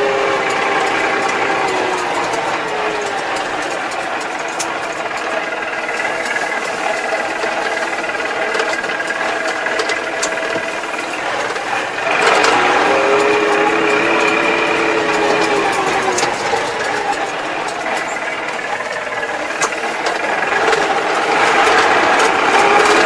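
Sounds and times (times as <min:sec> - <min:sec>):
faint clicks: 0:00.0 - 0:23.0
tractor diesel engine running: 0:00.0 - 0:23.0.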